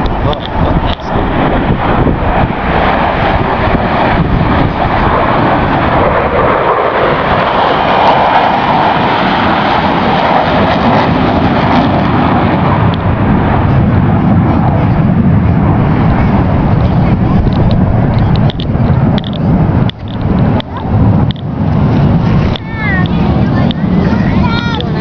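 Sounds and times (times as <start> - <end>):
fighter jets flying past: 0.0 - 25.0.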